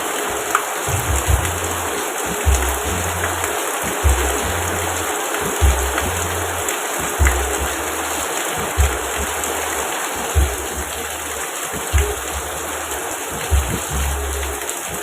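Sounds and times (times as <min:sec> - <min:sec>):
soft music with bass: 0:00.0 - 0:15.0
steady rain: 0:00.0 - 0:15.0.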